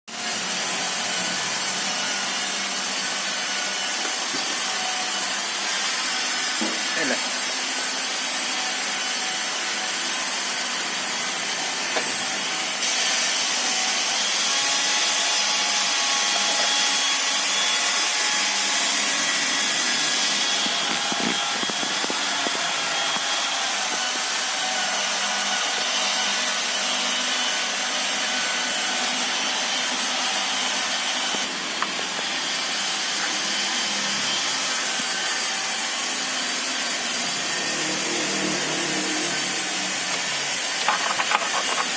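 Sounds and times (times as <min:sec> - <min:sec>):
machine motor whine: 0:00.1 - 0:41.9.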